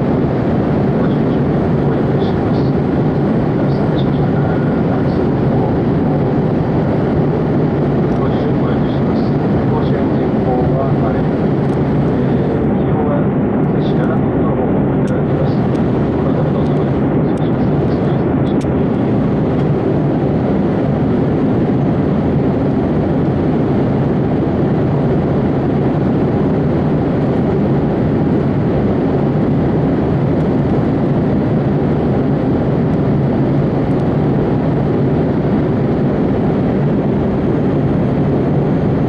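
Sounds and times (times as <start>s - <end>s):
airplane cabin roar: 0.0s - 39.0s.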